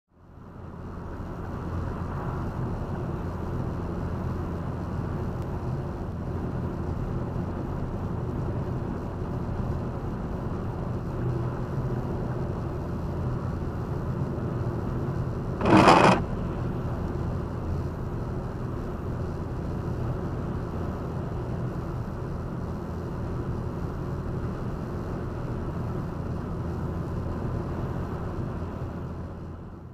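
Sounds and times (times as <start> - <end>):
car road and engine noise: 0.1 - 29.9.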